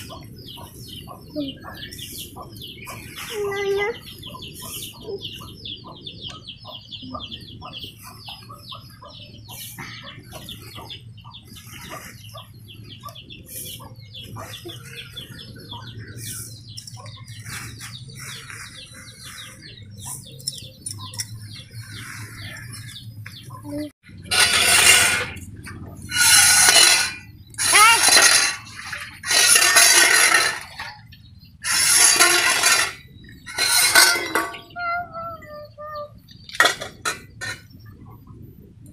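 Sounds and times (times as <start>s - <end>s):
birds peeping: 0.0s - 38.9s.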